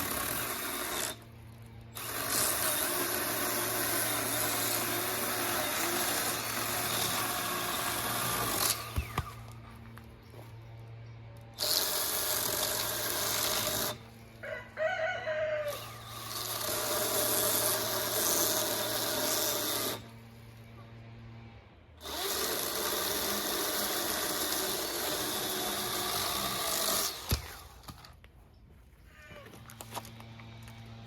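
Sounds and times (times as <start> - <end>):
battery saw cutting wood: 0.0 - 9.8, 11.5 - 14.3, 15.3 - 28.1.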